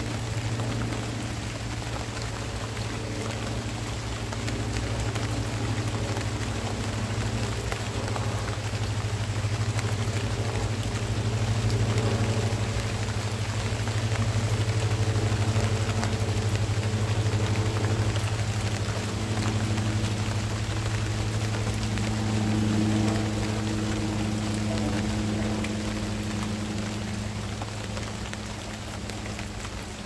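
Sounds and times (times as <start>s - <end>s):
low mechanical hum: 0.0s - 30.0s
rain falling on foliage: 0.0s - 30.0s.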